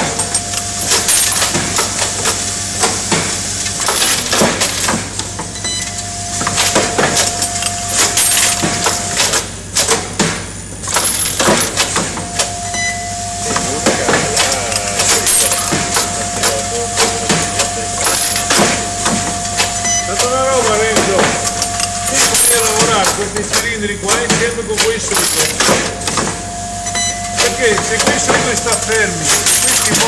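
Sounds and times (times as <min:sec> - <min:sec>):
pneumatic clamps clacking and hissing: 0:00.0 - 0:05.7, 0:06.4 - 0:12.6, 0:13.5 - 0:26.4, 0:27.3 - 0:30.0
sharp machine knocks: 0:00.0 - 0:05.8, 0:06.4 - 0:12.5, 0:13.5 - 0:30.0
steady machine tone: 0:00.0 - 0:09.8, 0:10.5 - 0:30.0.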